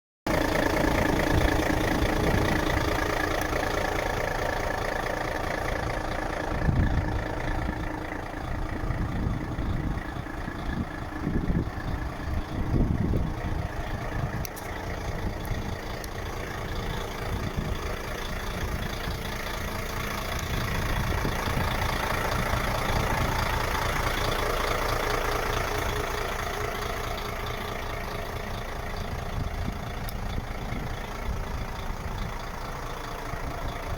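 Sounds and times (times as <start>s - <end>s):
truck diesel engine idling: 0.3s - 33.9s.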